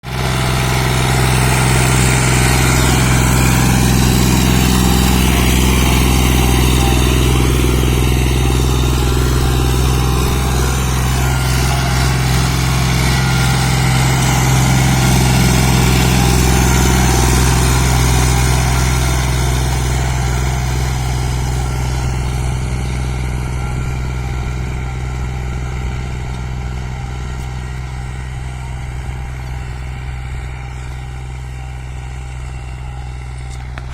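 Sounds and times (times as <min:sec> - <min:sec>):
diesel tractor engine running: 0:00.0 - 0:33.9.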